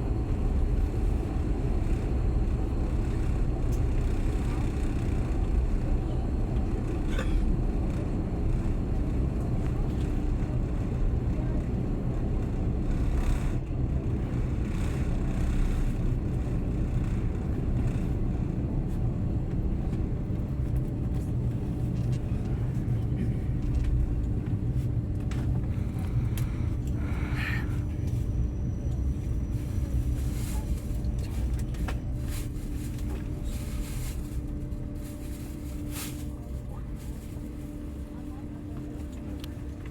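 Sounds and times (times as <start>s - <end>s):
faint constant hum: 0.0s - 39.9s
train carriage rumbling: 0.0s - 39.9s.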